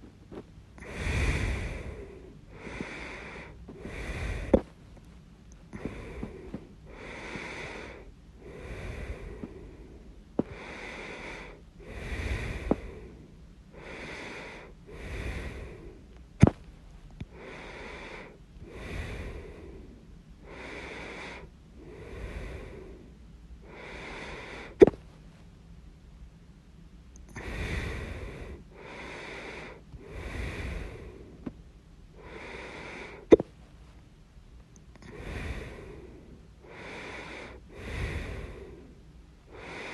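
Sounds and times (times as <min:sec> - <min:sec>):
breathing in and out: 0:00.0 - 0:25.2, 0:27.2 - 0:33.8, 0:34.8 - 0:39.9.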